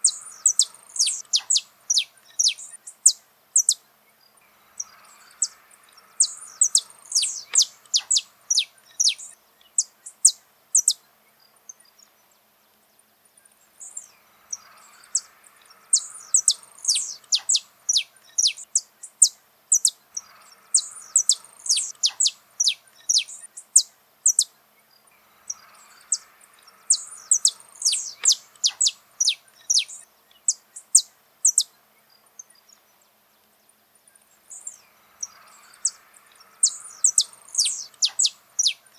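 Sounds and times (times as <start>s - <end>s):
finch singing high chirps: 0.0s - 3.8s, 4.7s - 11.0s, 13.8s - 33.0s, 34.0s - 38.9s.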